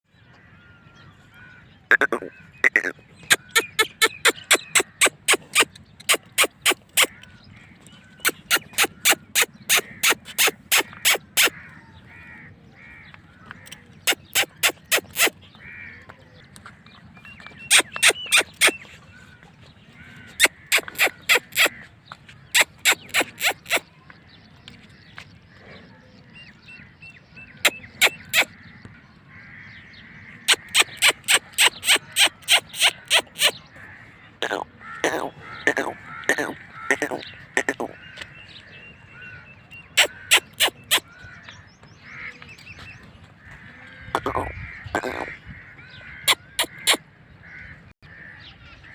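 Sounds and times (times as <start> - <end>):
short sharp bird calls: 1.9 - 16.0, 17.5 - 19.3, 19.9 - 24.0, 27.4 - 43.1, 43.7 - 47.9.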